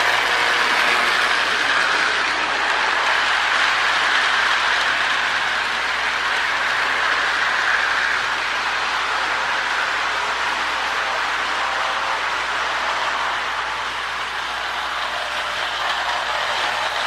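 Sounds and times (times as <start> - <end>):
toy train motor running: 0.0 - 17.0
wheels rolling on rails: 0.0 - 17.0.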